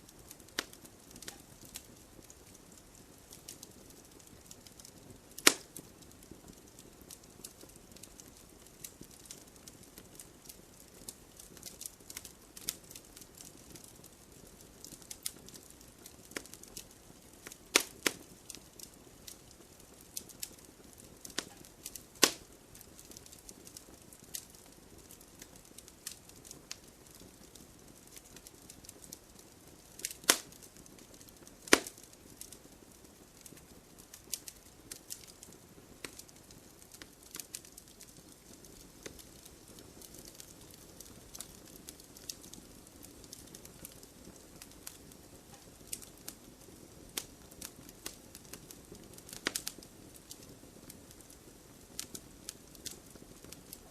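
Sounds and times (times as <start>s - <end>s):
campfire crackling and popping: 0.0s - 53.9s
faint low hiss: 0.0s - 53.9s.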